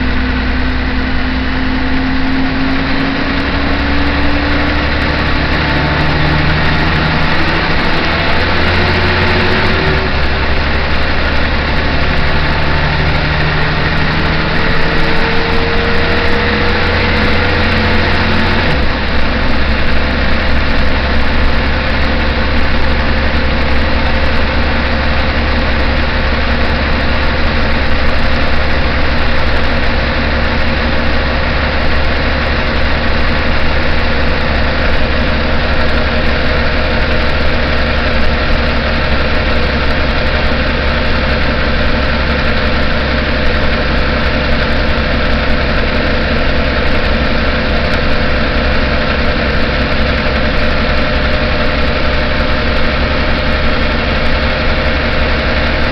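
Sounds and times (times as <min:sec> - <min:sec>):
bus engine low drone: 0:00.0 - 0:55.9.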